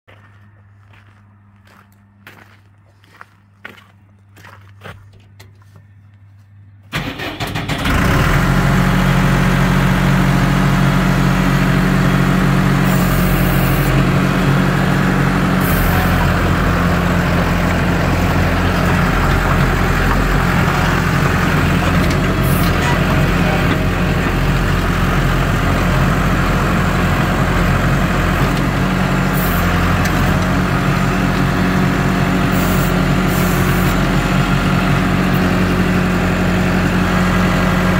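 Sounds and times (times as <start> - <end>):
diesel engine starting and running: 6.8 - 37.9.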